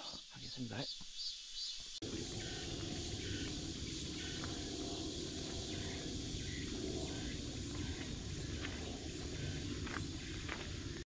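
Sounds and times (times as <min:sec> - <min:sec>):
insects calling in pulses: 0:00.0 - 0:11.0
rough outdoor noise: 0:00.0 - 0:11.0.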